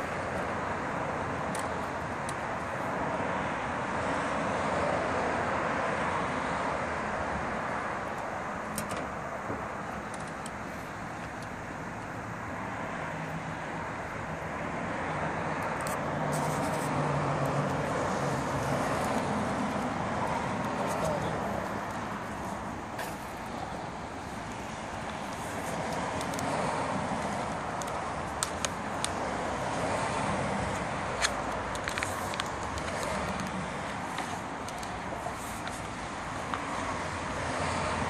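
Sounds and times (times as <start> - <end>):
road traffic rushing hum: 0.0 - 38.0.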